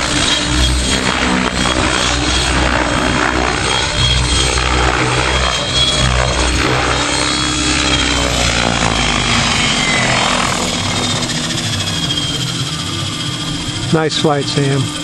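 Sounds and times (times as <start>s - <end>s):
model helicopter rotor hum: 0.0s - 15.0s
motor and tail rotor whine: 0.0s - 15.0s.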